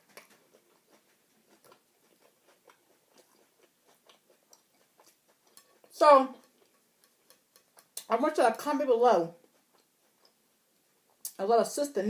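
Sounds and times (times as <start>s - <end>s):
chewing crunchy food: 0.0s - 8.4s, 9.3s - 11.4s.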